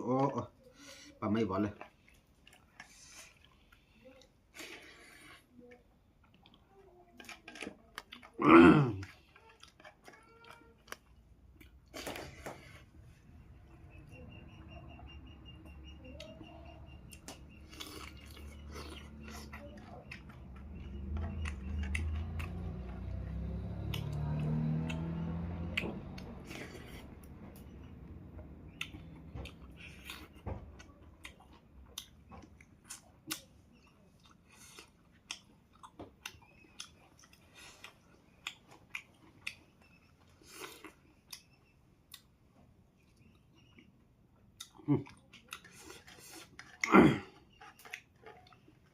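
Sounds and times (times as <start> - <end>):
chewing with clicks and smacks: 0.2 - 48.9.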